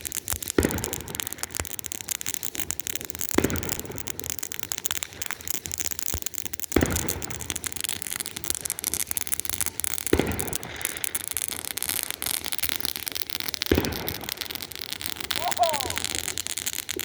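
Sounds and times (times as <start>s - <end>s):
firework bangs: 0.0s - 17.0s
fireworks crackling: 0.0s - 17.0s.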